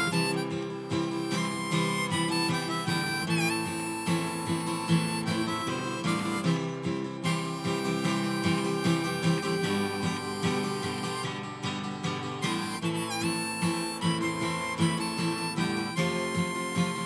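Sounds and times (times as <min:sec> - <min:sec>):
harmonica solo: 0:00.0 - 0:17.0
strummed guitar: 0:00.0 - 0:17.0.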